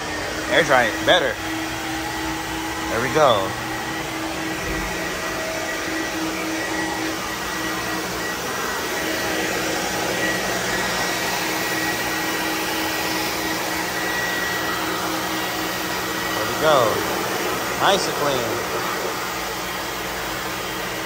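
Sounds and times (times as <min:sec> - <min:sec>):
blower motor whine: 0:00.0 - 0:21.0.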